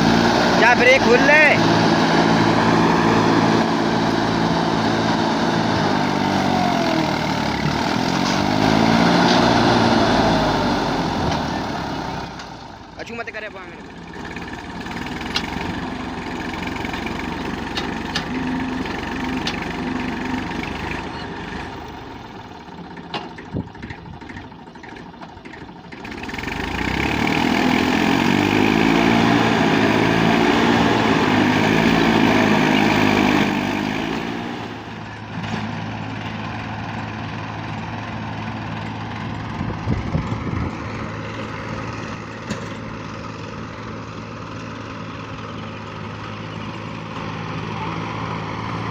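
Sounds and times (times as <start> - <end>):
tractor engine revving: 0.0 - 48.9.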